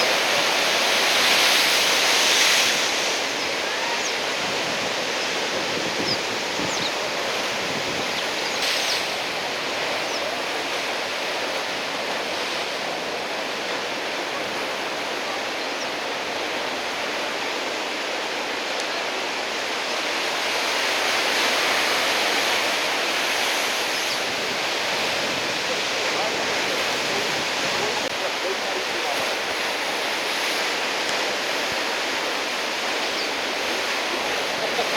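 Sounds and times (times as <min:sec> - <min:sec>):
heavy surf breaking on shore: 0:00.0 - 0:34.9.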